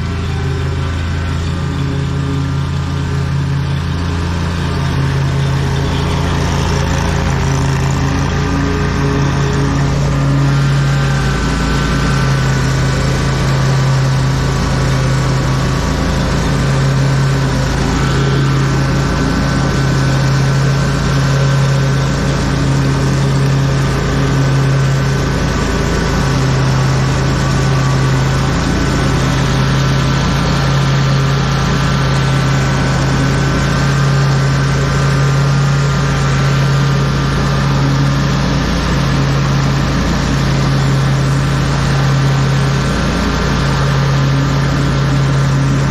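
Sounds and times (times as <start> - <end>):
lawn mower engine running: 0.0 - 45.9.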